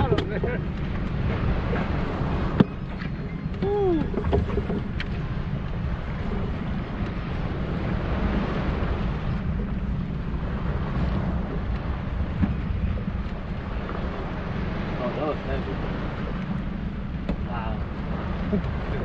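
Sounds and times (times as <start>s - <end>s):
wind buffeting the microphone: 0.0s - 19.0s.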